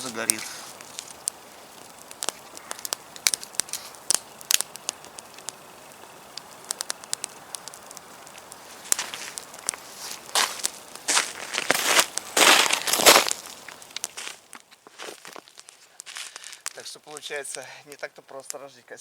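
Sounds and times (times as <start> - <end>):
campfire crackling and popping: 0.0 - 19.0
faint fire hiss: 0.0 - 19.0.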